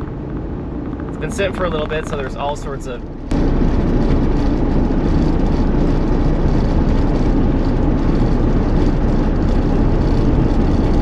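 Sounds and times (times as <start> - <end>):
road noise: 0.0 - 11.0
wind noise: 0.0 - 11.0
rough misfiring car engine: 1.1 - 11.0.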